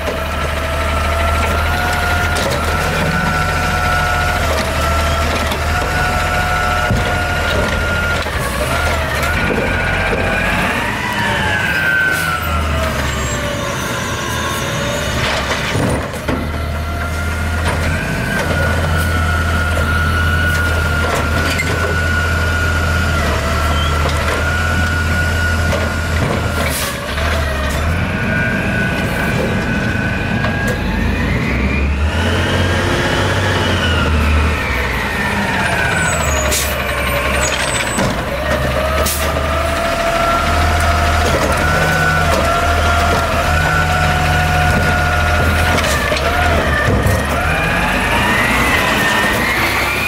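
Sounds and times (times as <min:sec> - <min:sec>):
diesel engine drone: 0:00.0 - 0:50.0
hydraulic whine: 0:00.0 - 0:50.0.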